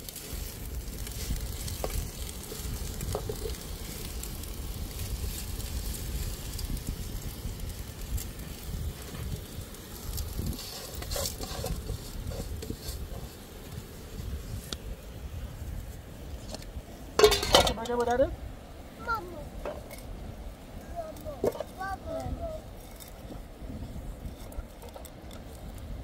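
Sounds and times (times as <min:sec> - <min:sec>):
sizzling in cooking pot: 0:00.0 - 0:26.0.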